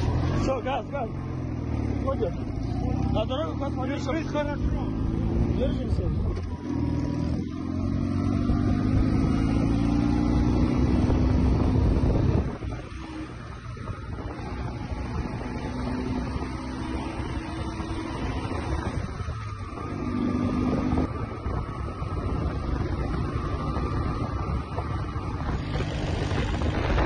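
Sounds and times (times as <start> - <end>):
motorcycle engine running: 0.0 - 27.0
wind buffeting microphone: 4.1 - 27.0.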